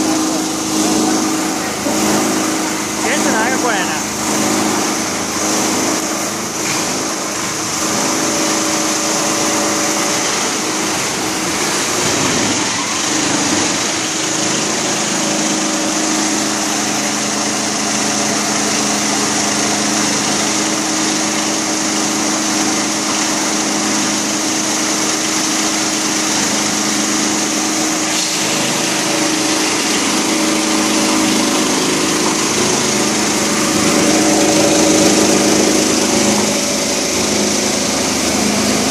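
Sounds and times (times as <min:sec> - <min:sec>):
plastic crusher motor humming: 0:00.0 - 0:38.9.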